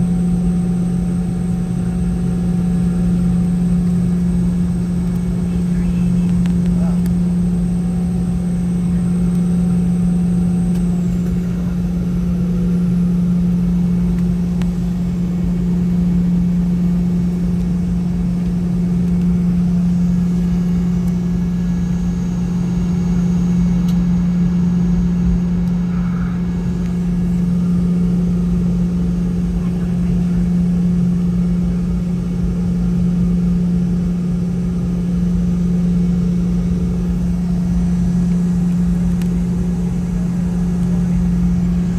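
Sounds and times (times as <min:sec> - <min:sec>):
aircraft cabin engine drone: 0:00.0 - 0:41.9.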